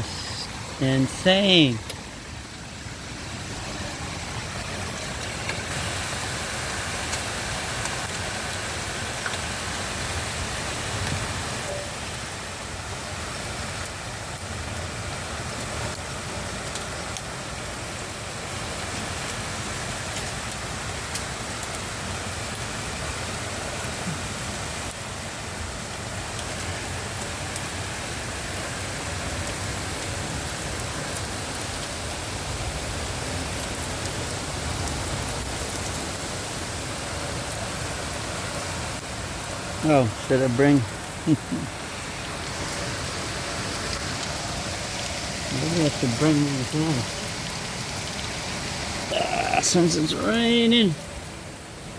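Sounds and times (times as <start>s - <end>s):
hail ticking: 0.0s - 51.3s
heavy rain hiss: 0.0s - 51.9s.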